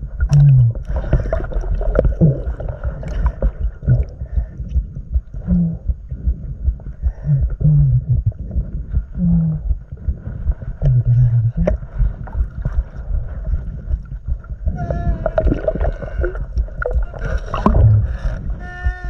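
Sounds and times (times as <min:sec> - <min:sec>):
low underwater hums: 0:00.0 - 0:19.0
water churning underwater: 0:00.0 - 0:19.0.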